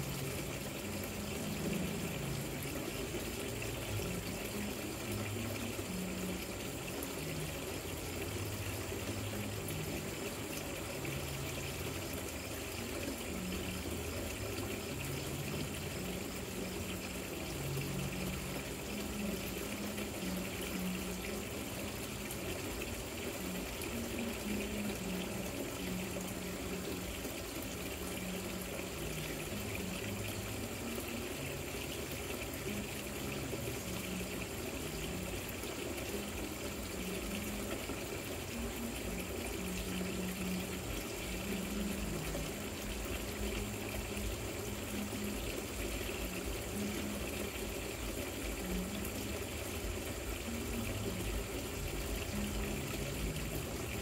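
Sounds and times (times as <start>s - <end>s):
fountain water splashing: 0.0s - 54.0s.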